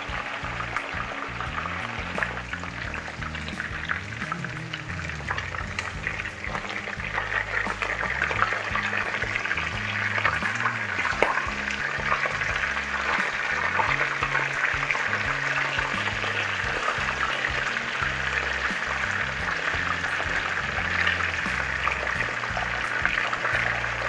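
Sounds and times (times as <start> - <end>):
chicken sizzling in hot oil: 0.0 - 24.0
music: 0.0 - 24.0.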